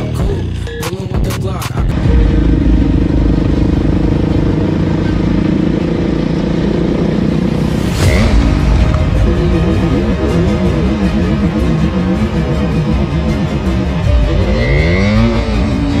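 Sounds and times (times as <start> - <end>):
dirt bike engine running: 0.0 - 16.0
rush of noise: 1.9 - 16.0.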